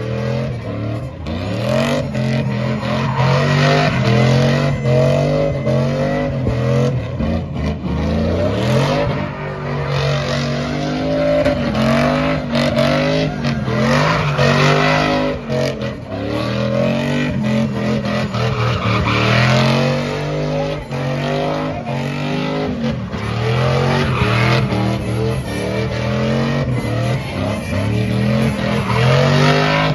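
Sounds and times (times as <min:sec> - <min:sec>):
truck engine revving hard: 0:00.0 - 0:29.9.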